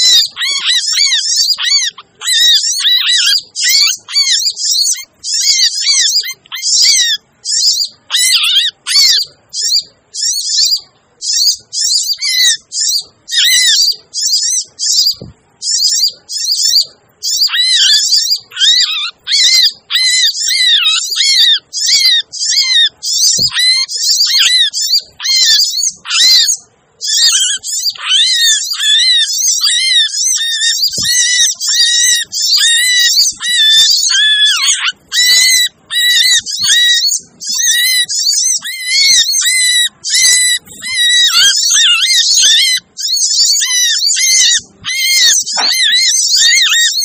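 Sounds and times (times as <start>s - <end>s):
flock of birds chirping: 0.0s - 47.0s.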